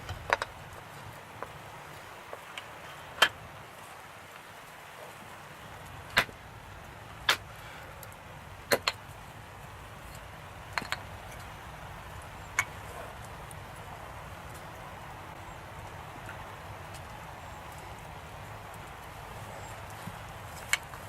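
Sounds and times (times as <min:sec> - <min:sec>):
firewood being split: 0:00.0 - 0:03.7, 0:05.0 - 0:14.8, 0:15.6 - 0:21.0.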